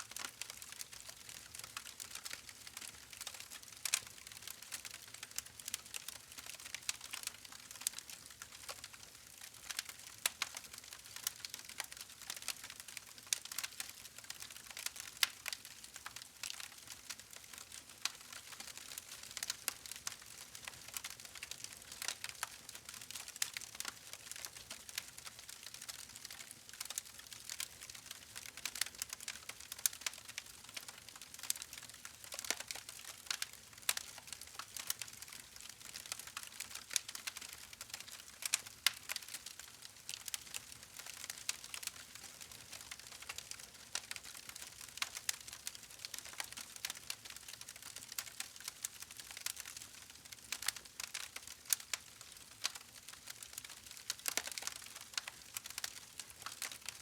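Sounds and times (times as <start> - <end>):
wood fire crackling and popping: 0.1 - 57.0.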